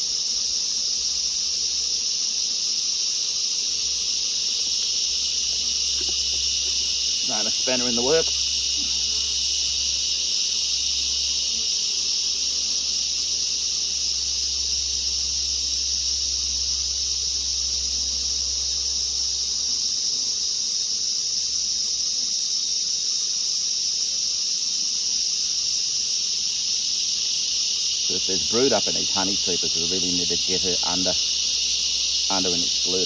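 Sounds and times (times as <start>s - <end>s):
shrill insect chorus: 0.0s - 33.0s.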